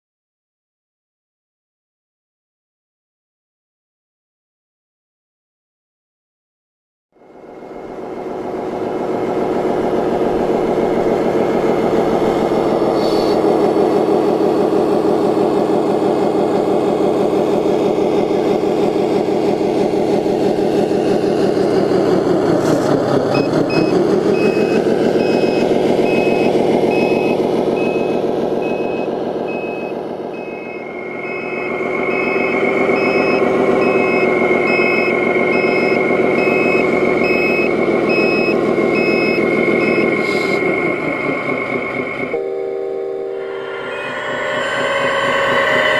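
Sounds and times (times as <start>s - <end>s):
simulated diesel engine sound: 7.2s - 45.9s
steady high whine: 7.2s - 45.9s
pulsing reversing beeper: 7.3s - 45.9s.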